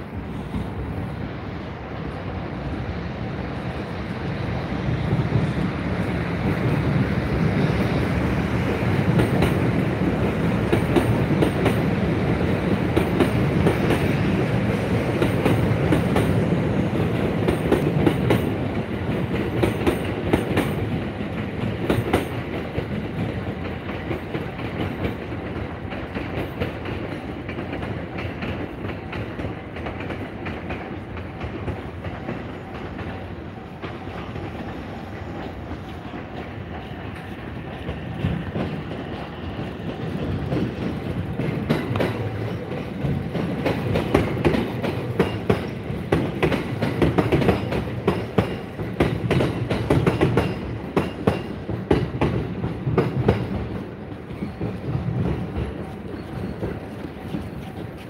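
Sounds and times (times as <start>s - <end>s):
train wheels clacking on rails: 2.0s - 58.0s.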